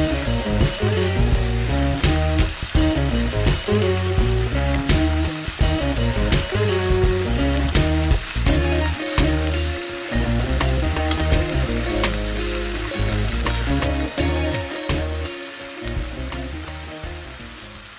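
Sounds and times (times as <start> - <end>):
food sizzling in a frying pan: 0.0 - 17.9.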